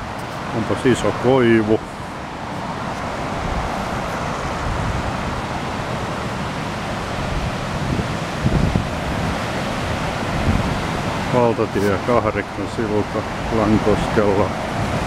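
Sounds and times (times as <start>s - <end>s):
river rapids rushing: 0.0s - 15.0s
wind buffeting microphone: 0.0s - 15.0s.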